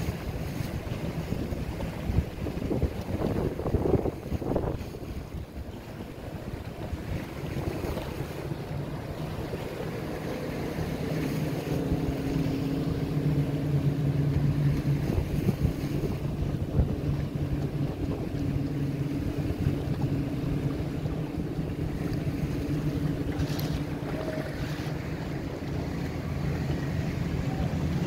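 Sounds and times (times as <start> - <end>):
motorboat engines droning: 0.0 - 28.0
wind buffeting microphone: 0.0 - 28.0.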